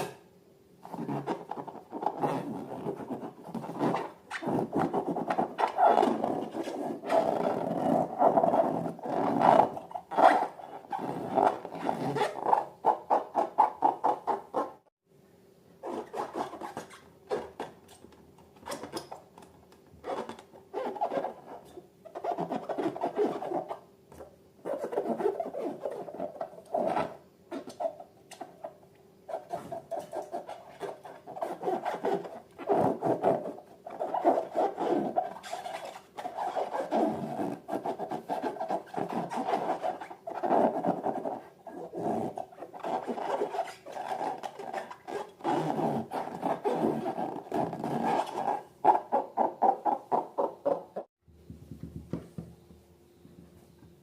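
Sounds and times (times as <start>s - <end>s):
balloons squeaking when rubbed: 0.8s - 14.9s, 15.8s - 18.0s, 20.0s - 23.9s, 24.6s - 51.1s.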